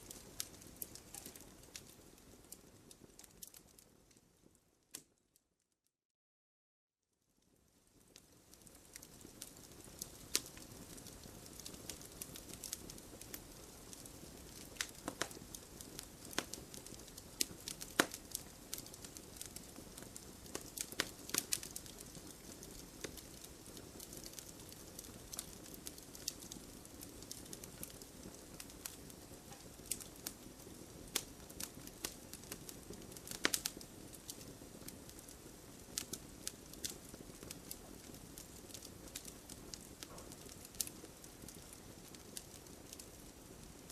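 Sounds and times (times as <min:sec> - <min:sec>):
campfire crackling and popping: 0:00.0 - 0:05.1, 0:07.5 - 0:43.9.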